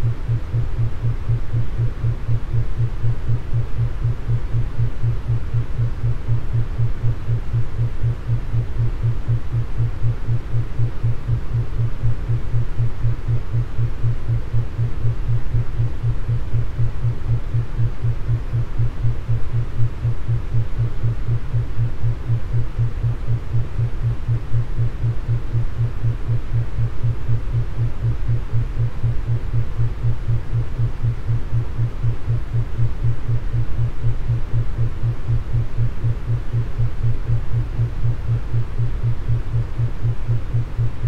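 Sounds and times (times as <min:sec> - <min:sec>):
low pulsing hum tone: 0:00.0 - 0:41.0
steady noise bed: 0:00.0 - 0:41.0.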